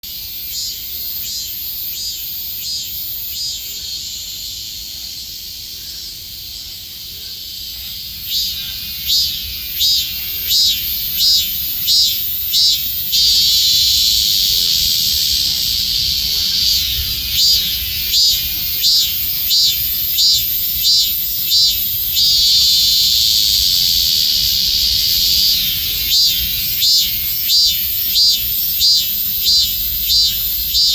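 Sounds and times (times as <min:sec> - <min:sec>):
cicada calling and buzzing: 0:00.0 - 0:30.9
steady high hiss: 0:00.0 - 0:30.9.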